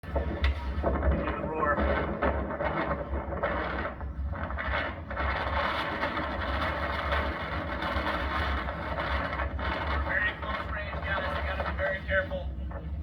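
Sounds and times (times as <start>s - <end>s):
dense rattling and scraping: 0.0s - 13.0s
steady low rumble: 0.0s - 13.0s.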